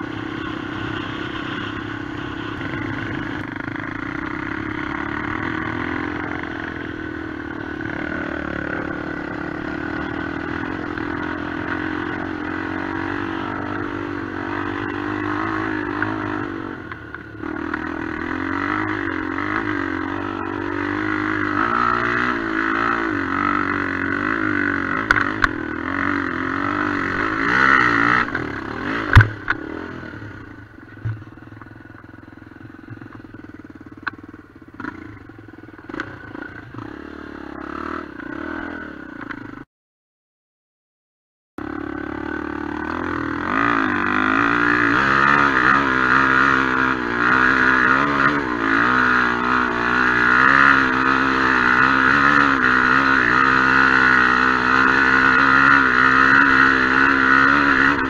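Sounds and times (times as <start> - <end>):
motorcycle engine revving: 0.0 - 39.7, 41.6 - 58.0.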